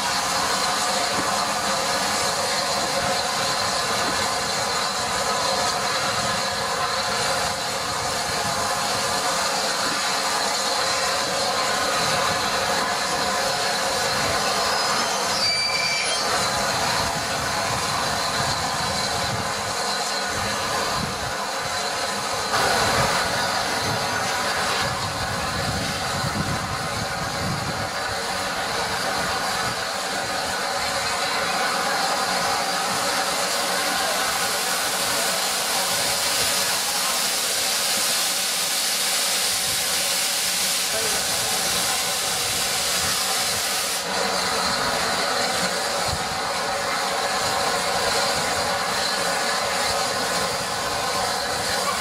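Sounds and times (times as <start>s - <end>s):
steam hissing from locomotive: 0.0s - 52.0s.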